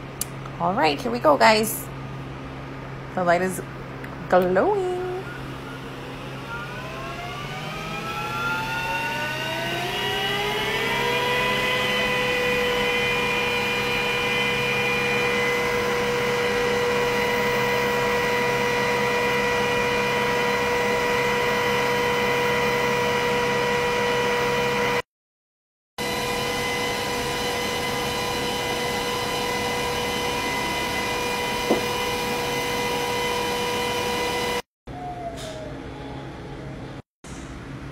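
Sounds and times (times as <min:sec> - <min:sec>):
laser cutter fans whining: 0:04.3 - 0:25.0, 0:26.0 - 0:37.0.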